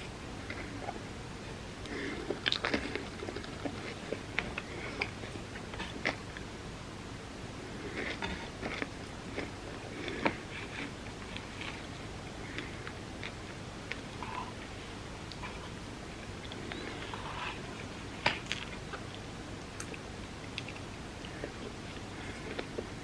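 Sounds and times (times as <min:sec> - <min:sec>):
person chewing wetly: 0:01.8 - 0:06.5, 0:07.8 - 0:23.0.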